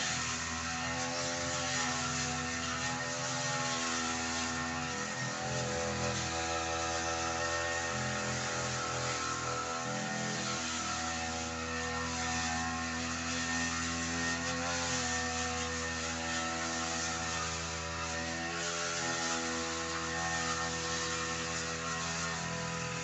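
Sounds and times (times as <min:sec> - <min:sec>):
brush cutter engine cutting grass: 0:00.0 - 0:23.0.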